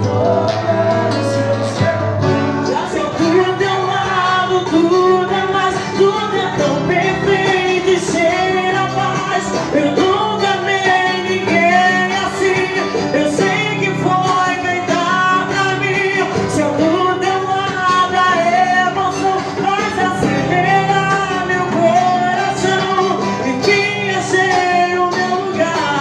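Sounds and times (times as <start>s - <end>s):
person singing: 0.0s - 26.0s
small band playing: 0.0s - 26.0s.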